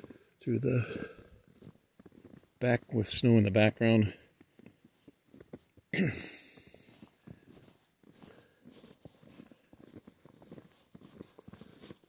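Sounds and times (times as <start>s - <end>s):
footsteps crunching in snow: 0.0s - 3.6s, 4.3s - 5.8s, 6.4s - 12.0s.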